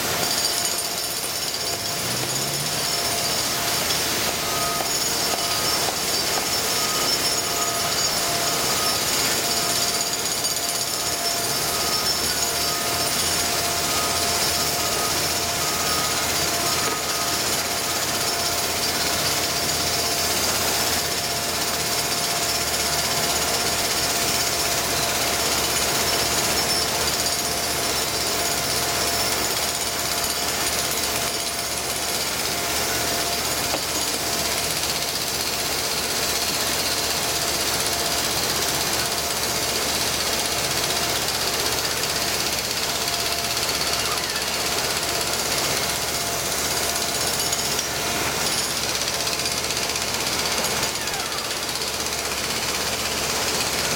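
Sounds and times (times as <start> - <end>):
jackhammer on concrete: 0.0 - 53.9.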